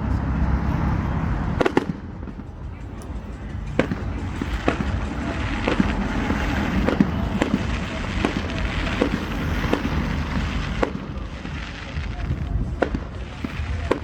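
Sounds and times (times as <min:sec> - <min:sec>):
crackling rumble of fireworks: 0:00.0 - 0:14.0
fireworks bangs: 0:00.0 - 0:14.0.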